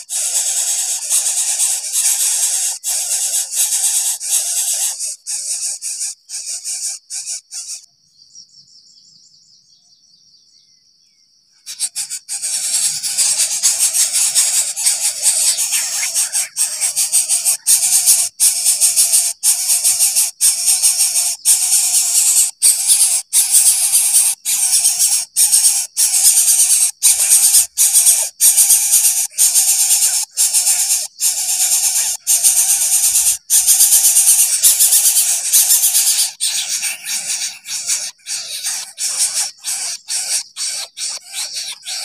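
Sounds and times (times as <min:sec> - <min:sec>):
chick begging hissing buzz: 0:00.0 - 0:07.8, 0:11.7 - 0:42.0.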